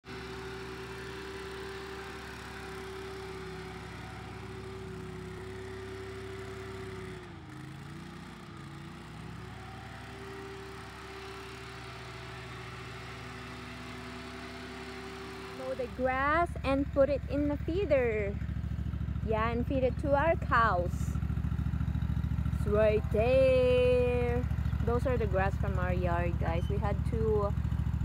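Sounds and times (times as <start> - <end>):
riding mower engine hum: 0.0 - 28.0.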